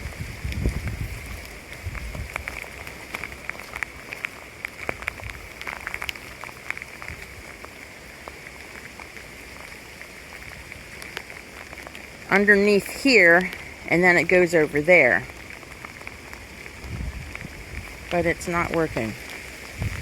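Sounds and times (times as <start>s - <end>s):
rain falling: 0.0s - 20.0s
raindrops ticking: 0.0s - 20.0s.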